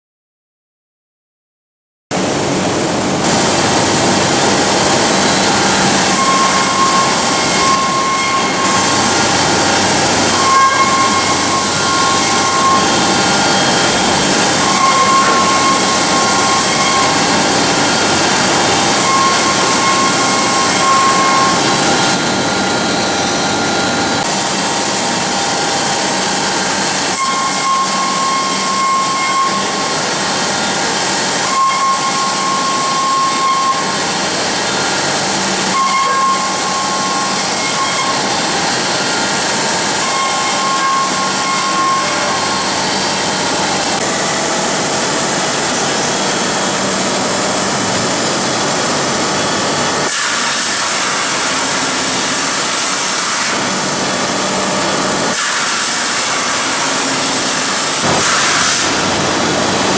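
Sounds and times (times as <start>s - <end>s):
machine whine: 2.2s - 59.9s.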